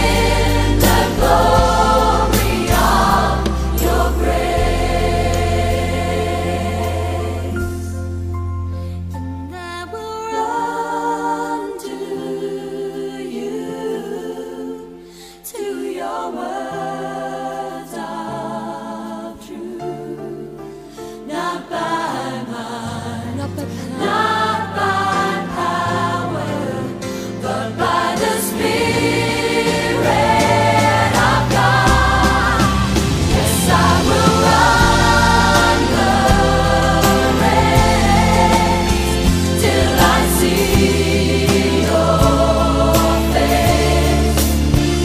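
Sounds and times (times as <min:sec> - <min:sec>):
choir singing with band: 0:00.0 - 0:08.3, 0:09.9 - 0:45.0.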